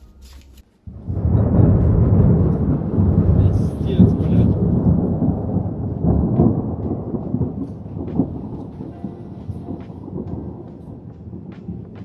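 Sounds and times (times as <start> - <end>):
deep rumbling noise: 0.8 - 12.0.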